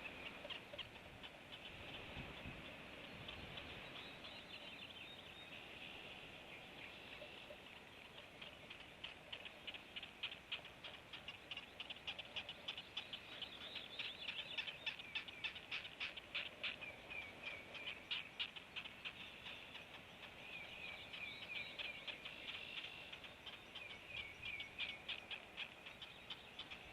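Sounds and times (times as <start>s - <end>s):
young animals peeping: 0.0s - 26.9s.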